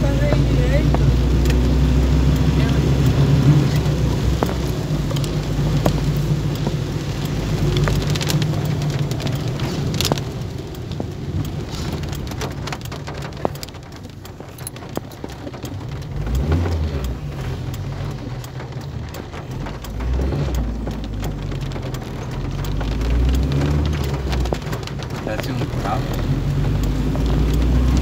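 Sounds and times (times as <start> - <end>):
car engine rumble: 0.0 - 28.0
rain drumming on car roof: 0.0 - 28.0
tyres on wet road: 0.0 - 28.0.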